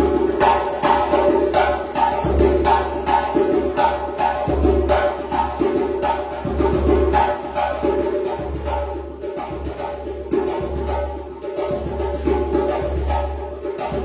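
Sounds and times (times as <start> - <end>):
djembe slaps and tones: 0.0 - 14.0.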